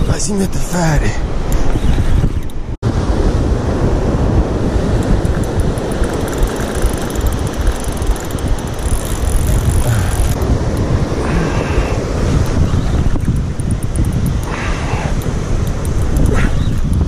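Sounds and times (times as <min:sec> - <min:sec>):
wind buffeting microphone: 0:01.0 - 0:17.0.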